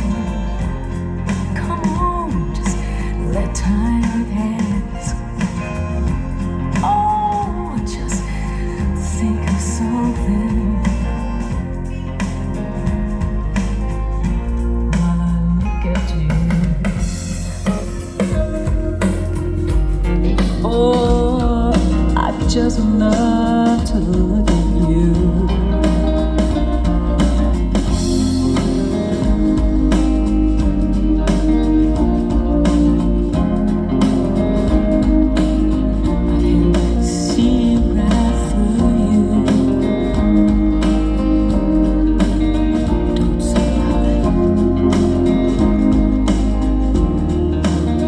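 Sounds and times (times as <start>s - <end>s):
electric guitar: 0.0s - 48.0s
steady bass line: 0.0s - 48.0s.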